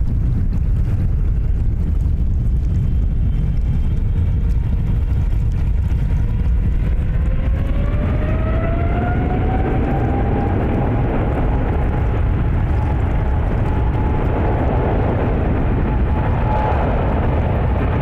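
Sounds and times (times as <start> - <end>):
jet engine whine: 0.0 - 18.0
jet engines rumbling: 0.0 - 18.0.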